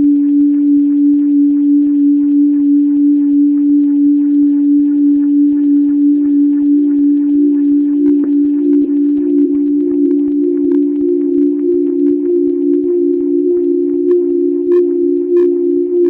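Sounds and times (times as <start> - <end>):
higher drone tone: 0.0 - 16.0
wavering drone tone: 0.0 - 16.0.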